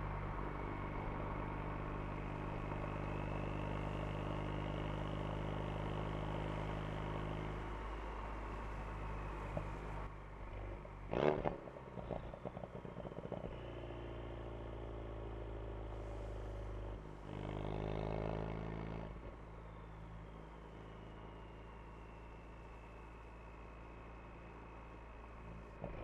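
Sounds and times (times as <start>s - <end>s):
car engine cruising and accelerating: 0.0s - 26.0s.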